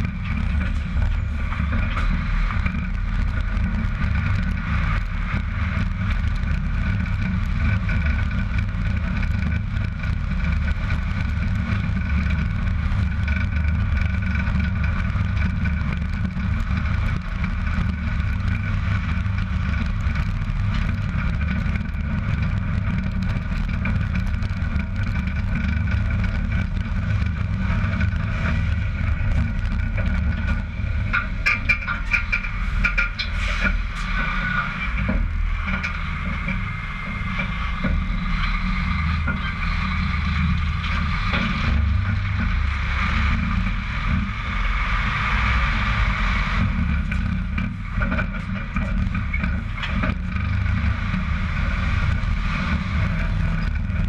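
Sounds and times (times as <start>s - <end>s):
trailer tyres rumbling on asphalt: 0.0s - 54.0s.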